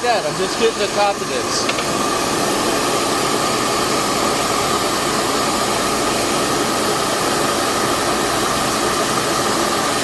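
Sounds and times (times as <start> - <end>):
extraction fan whining: 0.0 - 10.0.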